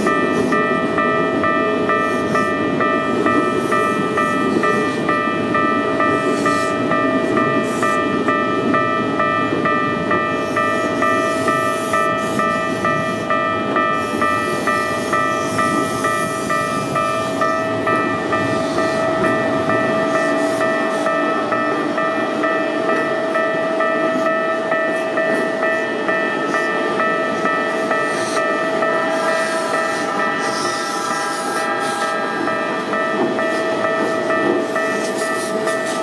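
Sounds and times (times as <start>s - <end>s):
level crossing warning bell: 0.0s - 36.0s
train wheels rumbling: 0.0s - 36.0s.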